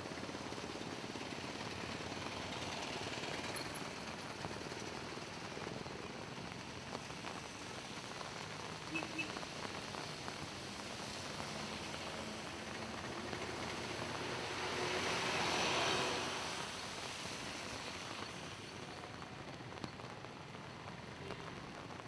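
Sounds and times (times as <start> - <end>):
heavy rain falling: 0.0 - 22.0
tyres splashing through floodwater: 0.1 - 22.0.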